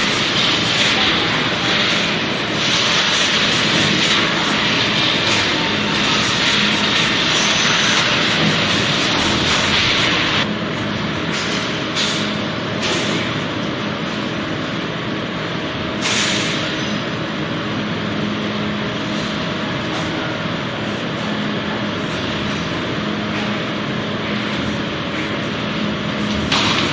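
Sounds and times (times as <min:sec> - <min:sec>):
machinery humming: 0:00.0 - 0:26.9.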